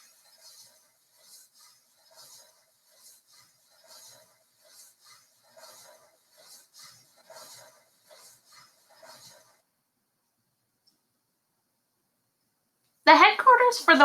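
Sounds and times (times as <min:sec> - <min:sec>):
faint rhythmic swishing: 0:00.0 - 0:14.0.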